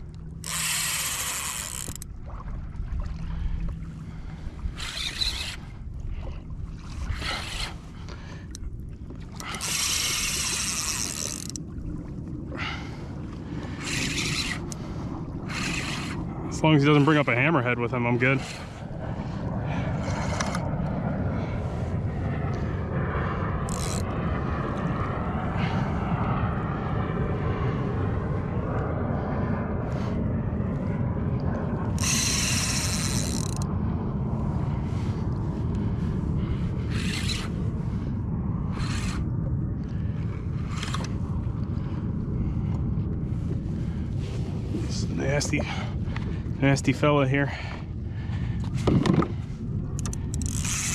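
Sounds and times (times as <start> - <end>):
water lapping at hull: 0.0 - 50.9
wind rumbling on microphone: 0.0 - 50.9.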